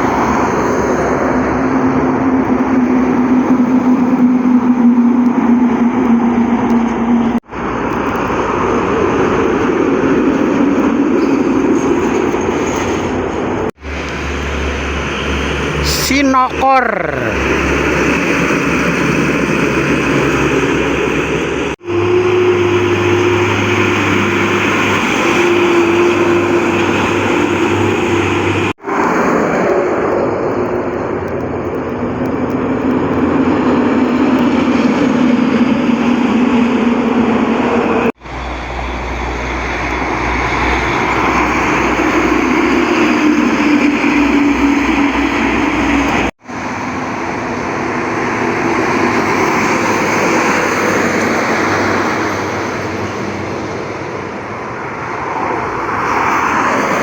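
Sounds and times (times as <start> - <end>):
heavy trucks driving past: 0.0 - 57.0
tyre and road noise: 0.0 - 57.0.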